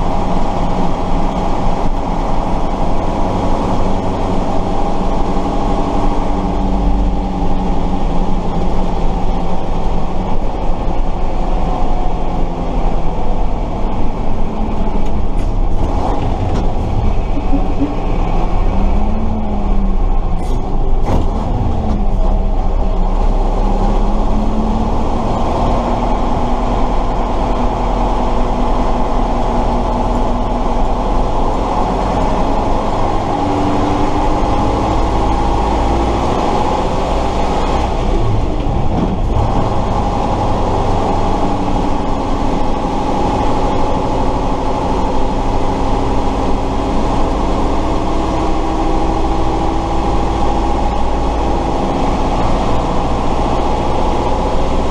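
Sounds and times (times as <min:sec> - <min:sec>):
truck diesel engine accelerating: 0:00.0 - 0:54.9.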